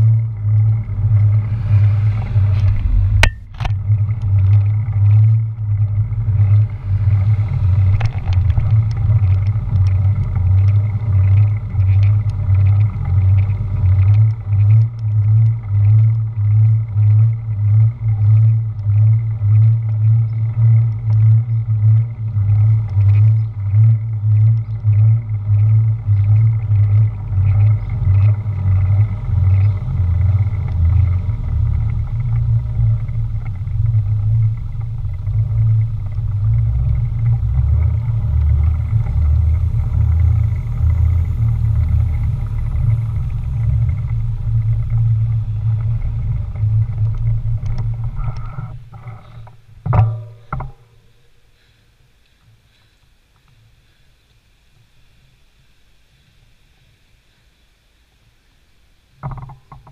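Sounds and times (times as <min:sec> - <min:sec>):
road vibration rumble: 0:00.0 - 0:56.3, 0:59.0 - 0:59.9.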